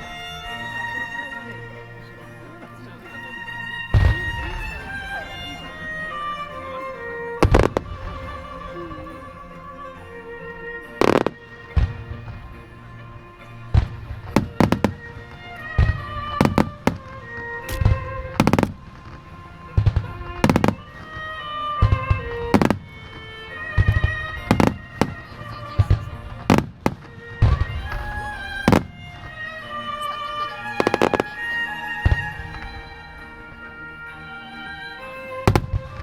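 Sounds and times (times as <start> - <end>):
music with sustained melody: 0.0 - 36.0
fireworks bangs: 3.9 - 33.6, 35.4 - 36.0.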